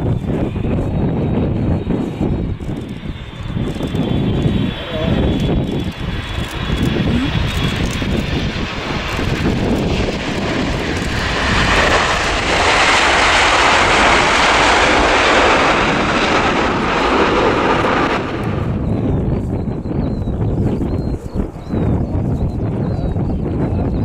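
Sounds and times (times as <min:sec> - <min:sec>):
jet engine reverse thrust rush: 0:00.0 - 0:24.0
jet engines rumbling: 0:00.0 - 0:24.0.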